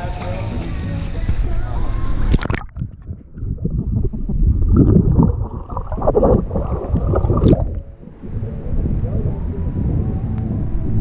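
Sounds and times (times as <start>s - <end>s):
muffled water gurgling and sloshing: 0.0s - 11.0s.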